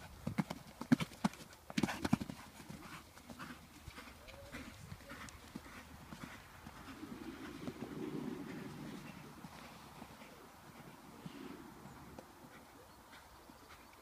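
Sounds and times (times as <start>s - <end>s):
horse hoofbeats on sand: 0.0s - 14.0s.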